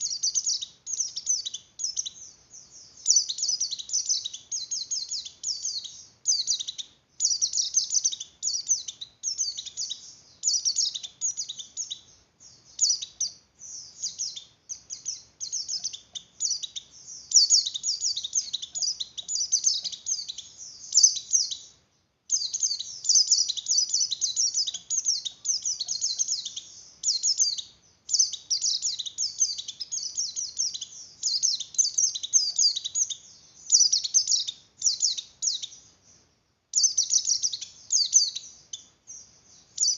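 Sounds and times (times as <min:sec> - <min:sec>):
bird twittering: 0:00.0 - 0:35.9, 0:36.8 - 0:39.9.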